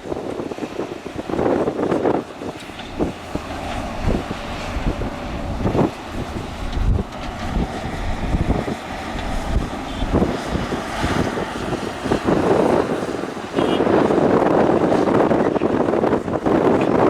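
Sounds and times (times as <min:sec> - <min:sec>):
wind buffeting microphone: 0:00.0 - 0:17.0
excavator diesel engine working: 0:00.1 - 0:17.0.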